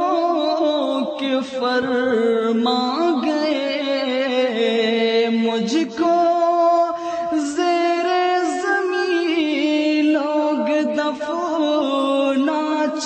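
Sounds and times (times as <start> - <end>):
person singing melodic passage: 0.0 - 13.0.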